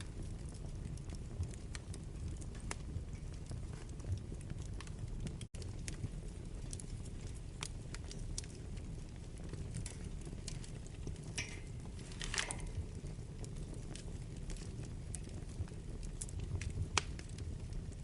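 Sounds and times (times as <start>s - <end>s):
fire crackling and popping: 0.0s - 18.0s
low rumble of fire: 0.0s - 18.0s.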